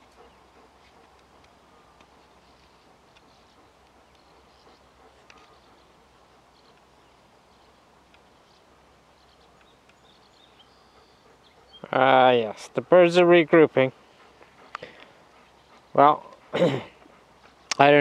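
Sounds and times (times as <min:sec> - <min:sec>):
background hiss: 0:00.0 - 0:18.0
small birds chirping: 0:00.0 - 0:18.0.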